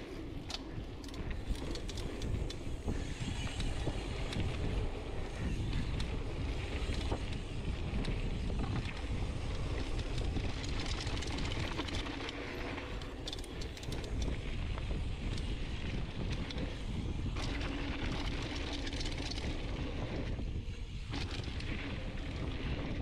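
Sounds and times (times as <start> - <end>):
bike clicks and rattles: 0.0 - 23.0
wind buffeting microphone: 0.0 - 23.0.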